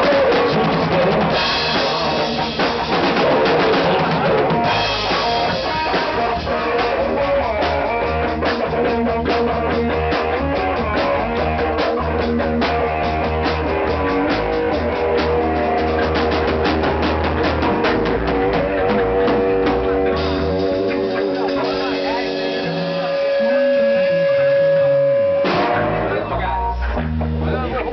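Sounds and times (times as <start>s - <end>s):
bass guitar: 0.0s - 27.9s
drum kit beat: 0.0s - 27.9s
guitar: 0.0s - 27.9s.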